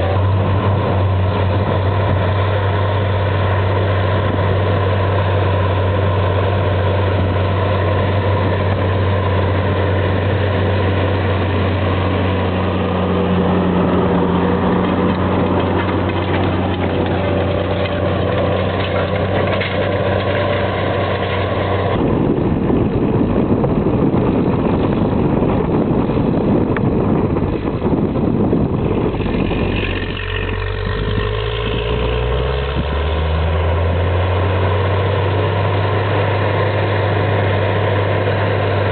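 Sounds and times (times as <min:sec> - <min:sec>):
rough rushing noise: 0:00.0 - 0:38.9
tractor diesel engine droning: 0:00.0 - 0:38.9.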